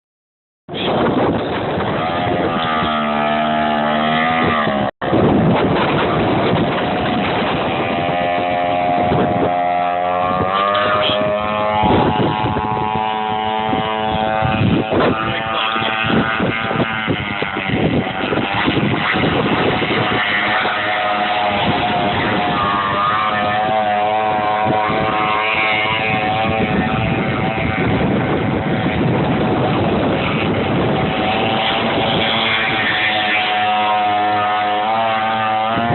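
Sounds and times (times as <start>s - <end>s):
two-stroke engine revving: 0.7s - 35.9s.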